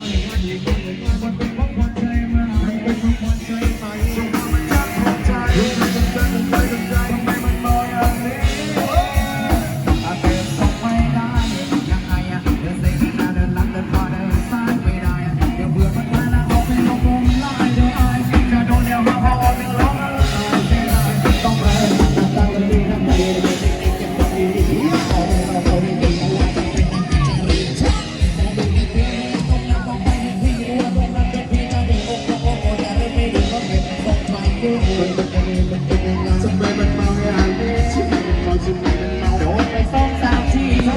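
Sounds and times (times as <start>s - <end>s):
fast drum beat: 0.0s - 40.9s
person singing: 0.0s - 40.9s
procession band music: 0.0s - 40.9s.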